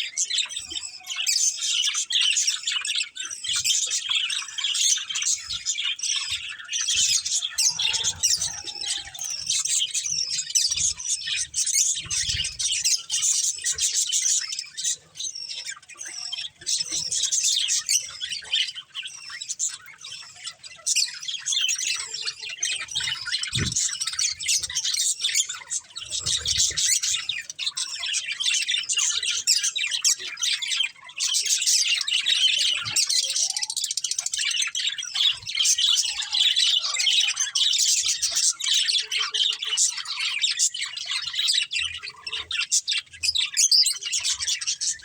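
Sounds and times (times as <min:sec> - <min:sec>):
budgerigars chattering and chirping: 0:00.0 - 0:45.0.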